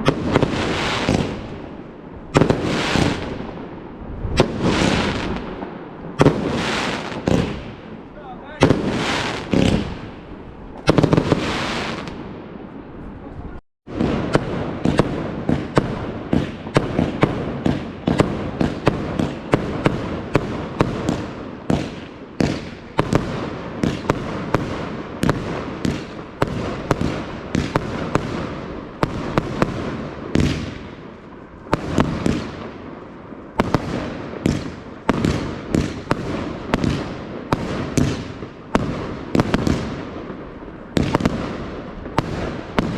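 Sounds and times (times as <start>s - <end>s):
fireworks sharp bangs: 0.0s - 42.9s.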